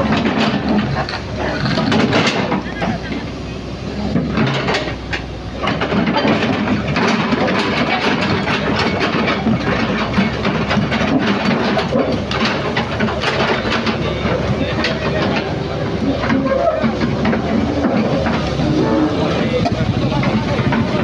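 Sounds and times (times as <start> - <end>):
excavator diesel engine running: 0.0 - 21.0
steel tracks clanking: 0.0 - 21.0.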